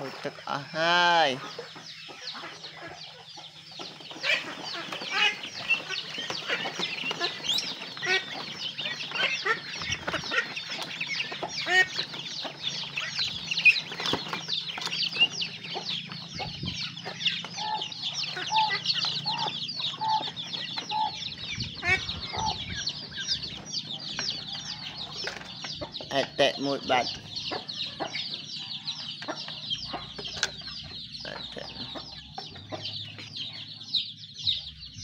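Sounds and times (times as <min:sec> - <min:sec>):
chicks peeping: 0:00.0 - 0:35.0
hen clucking: 0:00.0 - 0:35.0.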